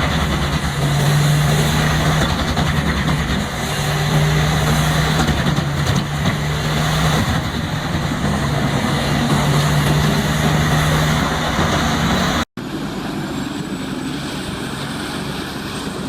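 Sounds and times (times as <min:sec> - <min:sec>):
wood chipper engine running: 0:00.0 - 0:16.0.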